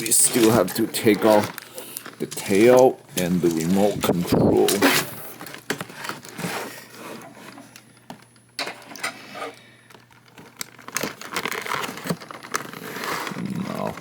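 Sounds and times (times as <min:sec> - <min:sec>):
toy packaging crinkling and rustling: 0:00.0 - 0:14.0.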